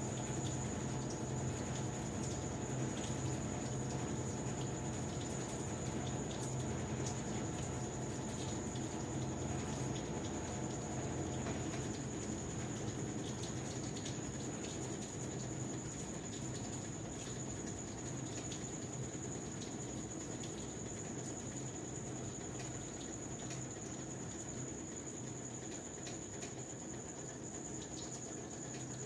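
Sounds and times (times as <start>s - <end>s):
washing machine motor hum: 0.0s - 29.0s.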